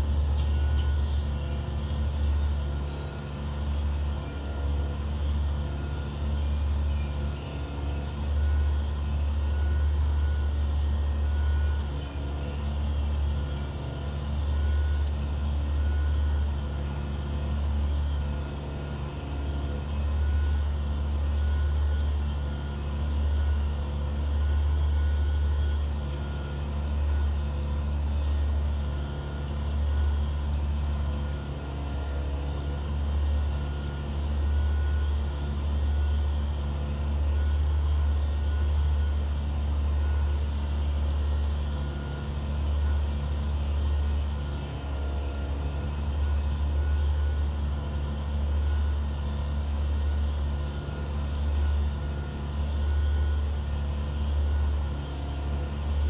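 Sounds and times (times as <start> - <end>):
low mechanical rumble and hum: 0.0 - 56.0.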